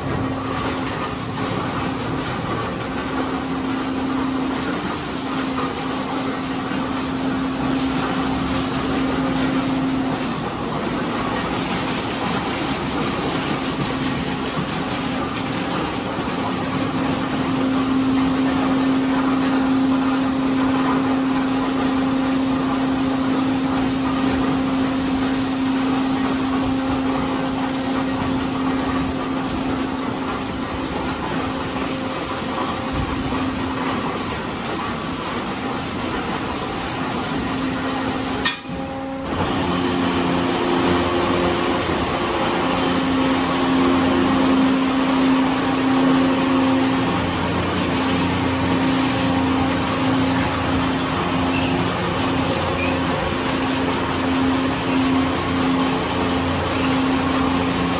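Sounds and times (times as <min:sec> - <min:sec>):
car wash brushes spinning: 0:00.0 - 0:57.9
motor hum: 0:00.0 - 0:57.9.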